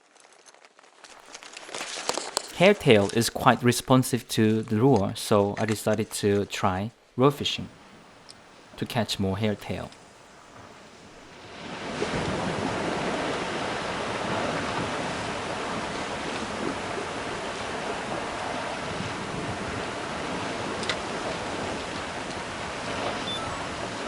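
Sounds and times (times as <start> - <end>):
wind: 0.0 - 24.0
surf against rocky shore: 1.2 - 24.0.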